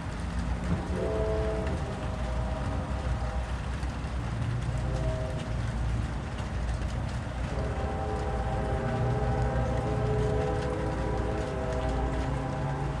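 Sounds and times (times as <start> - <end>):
low rumble: 0.0 - 13.0
distant train horn: 0.4 - 13.0.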